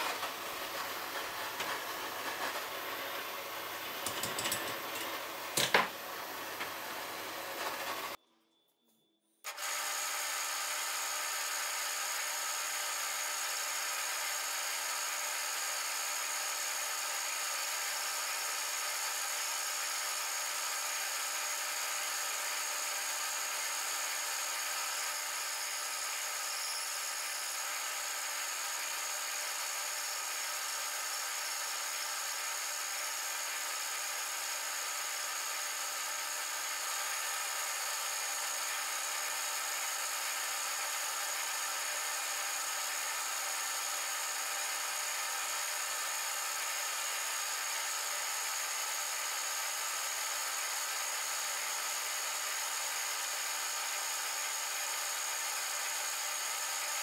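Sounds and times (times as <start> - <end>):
boring bar cutting brass: 4.0 - 8.2, 9.6 - 57.0
metal lathe whining: 9.6 - 57.0.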